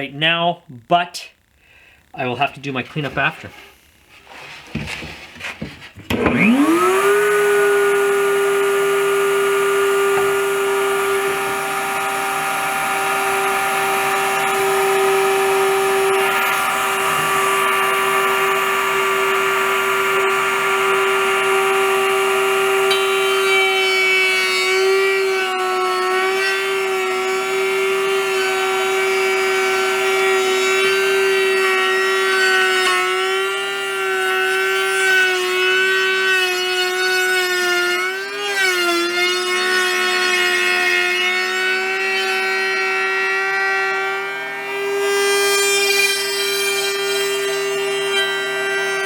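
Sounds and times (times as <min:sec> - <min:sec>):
router whining cutting wood: 0:06.1 - 0:49.0.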